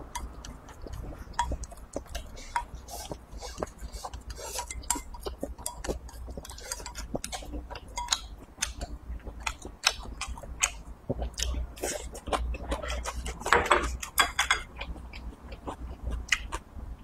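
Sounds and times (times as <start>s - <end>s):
chewing mouth clicks and smacks: 0.1s - 16.6s.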